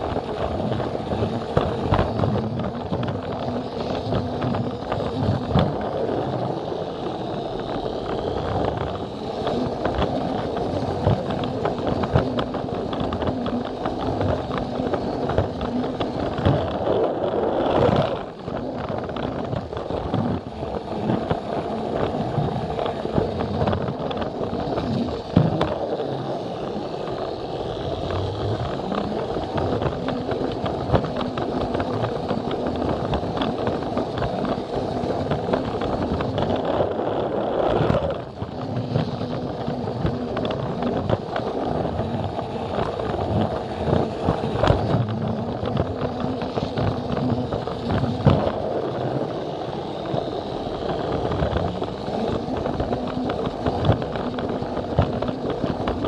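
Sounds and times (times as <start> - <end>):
toy train motor whirring: 0.0 - 56.0
wheels clattering over track joints: 0.0 - 56.0.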